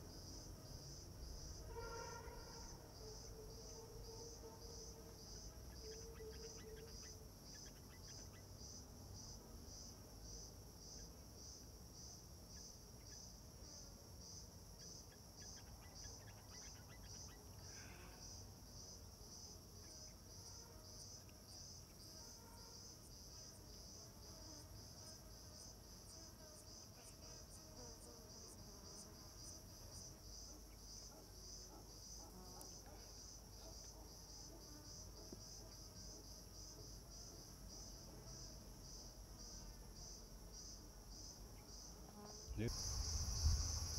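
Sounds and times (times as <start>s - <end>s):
insects chirping: 0.0s - 43.9s.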